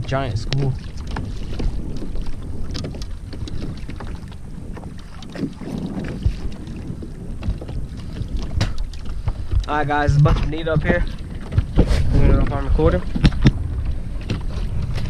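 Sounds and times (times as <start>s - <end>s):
water slapping against kayak hull: 0.0s - 15.0s
wind buffeting microphone: 0.0s - 15.0s.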